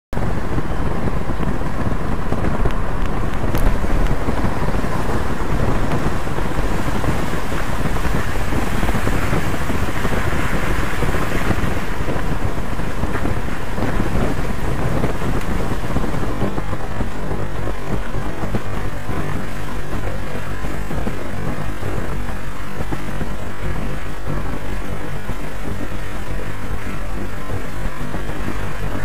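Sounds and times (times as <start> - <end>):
wind buffeting microphone: 0.1 - 29.0.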